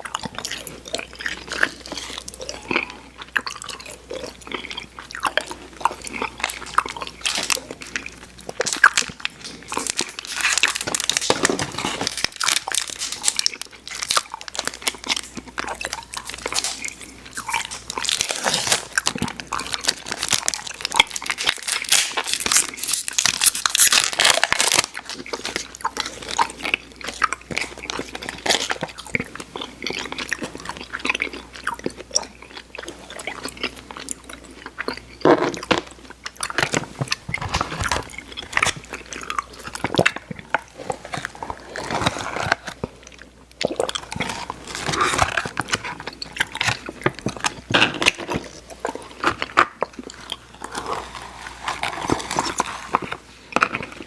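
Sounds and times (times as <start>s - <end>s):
person chewing candy: 0.0s - 54.0s.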